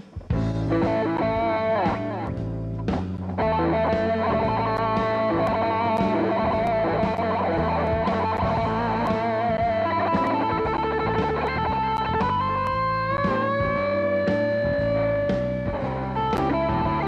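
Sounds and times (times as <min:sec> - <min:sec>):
bass line: 0:00.0 - 0:17.0
steady drum beat: 0:00.0 - 0:17.0
electric guitar blues solo: 0:00.6 - 0:17.0.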